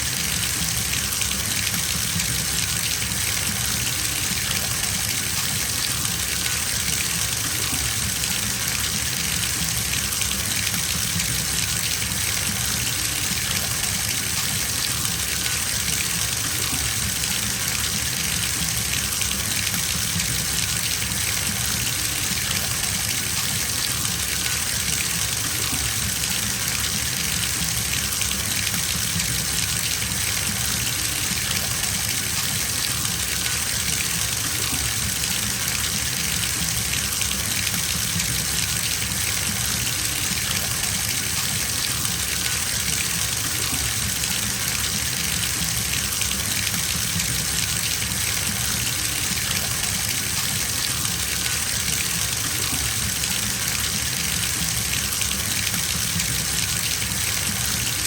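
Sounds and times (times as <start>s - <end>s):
tap water filling a bathtub: 0.0s - 58.0s.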